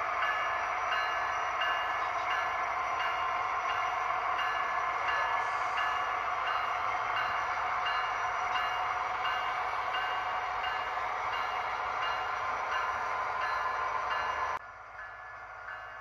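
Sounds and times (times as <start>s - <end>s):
model train running whir: 0.0s - 16.0s.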